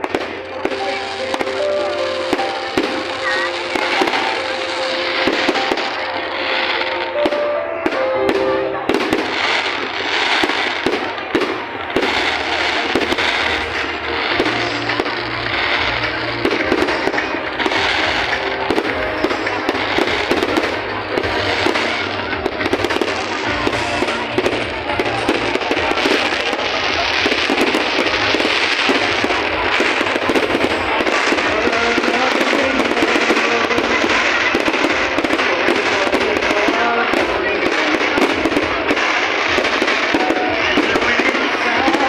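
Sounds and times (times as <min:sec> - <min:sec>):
fireworks crackling pops and bangs: 0:00.0 - 0:42.0
music playing: 0:00.0 - 0:42.0.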